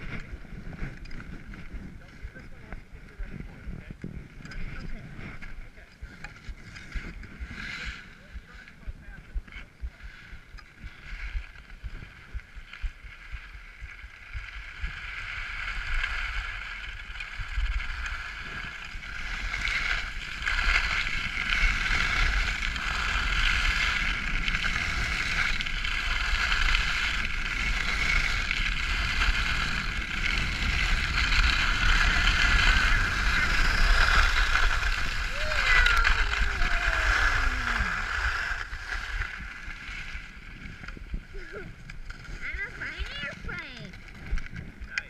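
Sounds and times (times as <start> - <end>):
skis scraping over snow: 0.0 - 45.0
wind buffeting microphone: 0.0 - 45.0.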